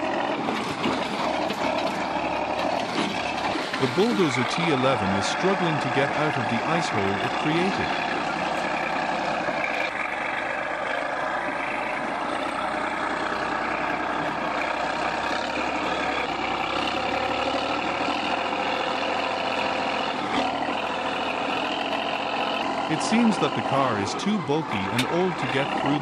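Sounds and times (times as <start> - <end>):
bulldozer diesel engine labouring: 0.0 - 26.0.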